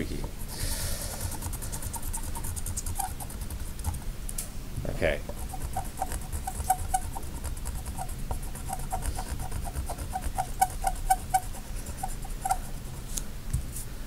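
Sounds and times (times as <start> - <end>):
eraser squeaking on paper: 0.0 - 4.0, 5.3 - 13.1.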